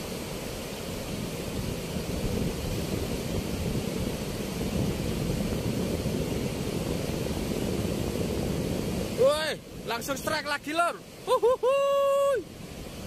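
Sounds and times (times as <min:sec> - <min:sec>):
river water rushing through weir: 0:00.0 - 0:13.0.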